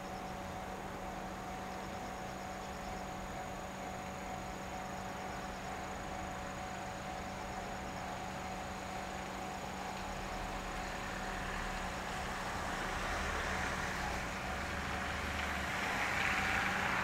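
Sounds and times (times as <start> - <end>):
insects chirping: 0.0 - 14.2.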